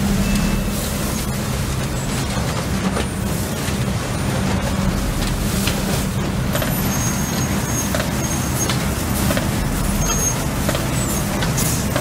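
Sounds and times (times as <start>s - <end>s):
leaf vacuum machine drone: 0.0s - 12.0s.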